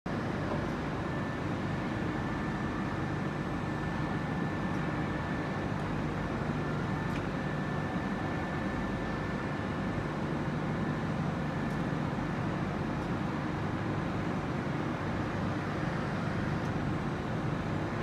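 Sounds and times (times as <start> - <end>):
factory machinery hum: 0.1 - 18.0.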